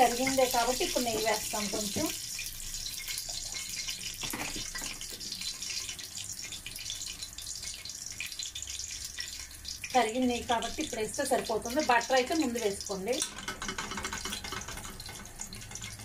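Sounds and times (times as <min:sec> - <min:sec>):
oil and spices sizzling: 0:00.0 - 0:16.0.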